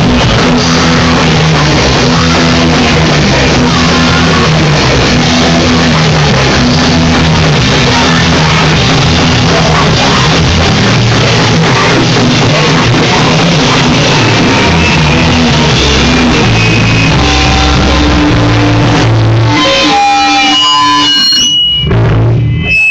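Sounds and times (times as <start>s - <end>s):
pounding drum kit: 0.0s - 20.1s
distorted guitar and bass riff: 0.0s - 22.9s
punk rock band playing: 0.0s - 22.9s.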